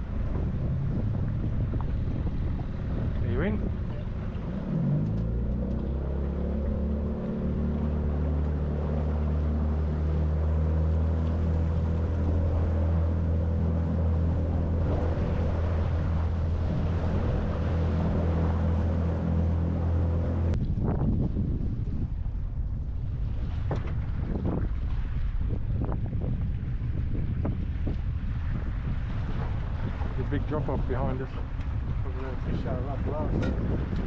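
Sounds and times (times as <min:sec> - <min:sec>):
outboard motor running: 0:00.0 - 0:20.6, 0:21.8 - 0:34.0
water noise: 0:00.0 - 0:34.0
wind: 0:00.0 - 0:34.0.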